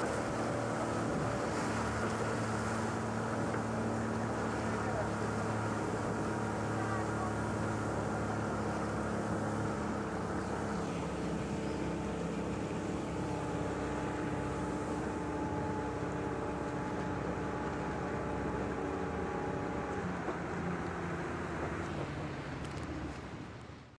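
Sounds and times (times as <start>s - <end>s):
small boat engine running: 0.0s - 23.9s.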